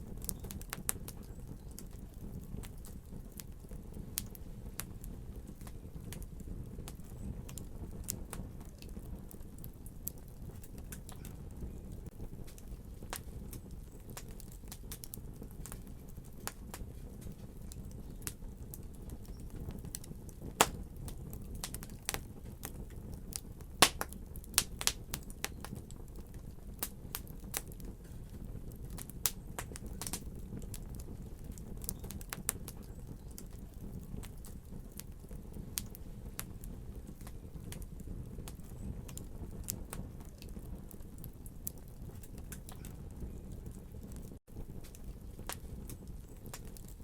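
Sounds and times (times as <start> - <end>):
fire crackling and popping: 0.0 - 47.0.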